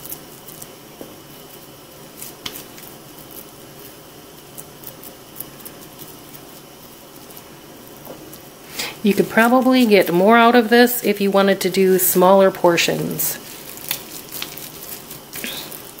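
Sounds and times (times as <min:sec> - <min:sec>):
ground meat squishing: 0:00.0 - 0:16.0.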